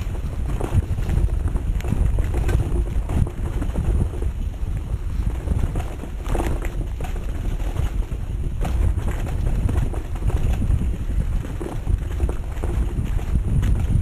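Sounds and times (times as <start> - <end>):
bike knocks and rattles: 0.0 - 14.0
bike tyre noise: 0.0 - 14.0
wind rushing over microphone: 0.0 - 14.0.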